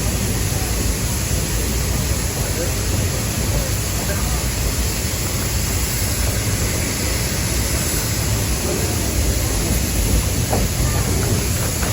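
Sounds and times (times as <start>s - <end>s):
train car rumbling: 0.0s - 11.9s.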